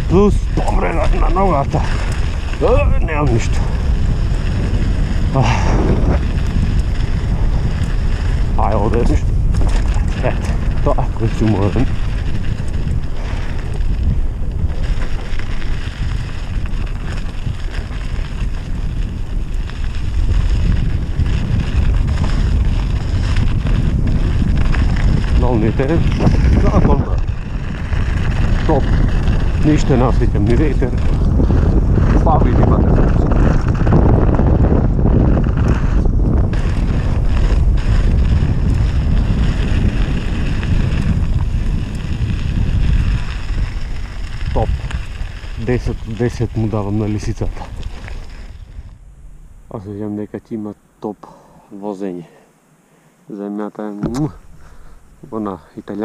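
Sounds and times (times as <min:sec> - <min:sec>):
wind buffeting microphone: 0:00.0 - 0:50.4
bike tyres rumbling on dirt: 0:00.0 - 0:50.6, 0:53.8 - 0:56.0.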